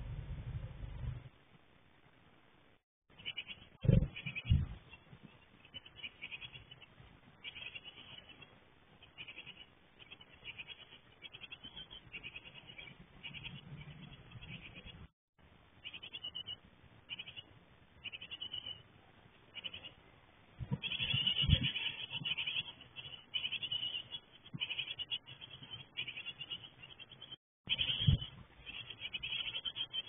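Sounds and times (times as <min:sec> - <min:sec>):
nestlings chirping: 0:03.1 - 0:15.1, 0:15.8 - 0:18.9, 0:19.5 - 0:20.0, 0:20.6 - 0:30.0.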